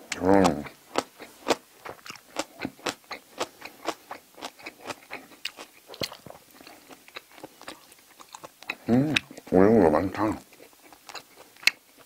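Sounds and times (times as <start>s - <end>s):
mouth chewing wet smacks: 0.1s - 9.5s, 10.4s - 12.0s.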